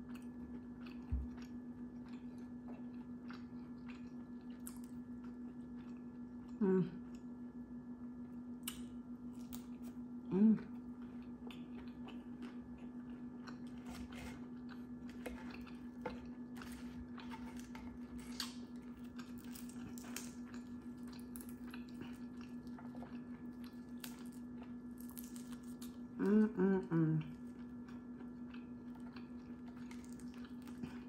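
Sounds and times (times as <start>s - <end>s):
wet chewing sounds: 0.0s - 7.3s, 8.6s - 26.3s, 27.1s - 31.0s
crunchy chewing: 0.0s - 7.4s, 8.2s - 26.2s, 27.2s - 31.0s
steady low hum: 0.0s - 31.0s.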